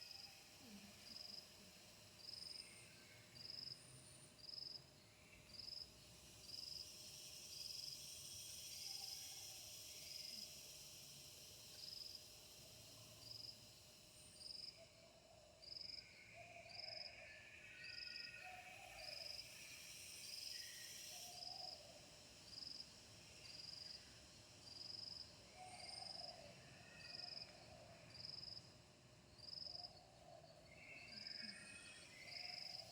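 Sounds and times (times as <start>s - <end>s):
insects chirping: 0.0s - 32.9s.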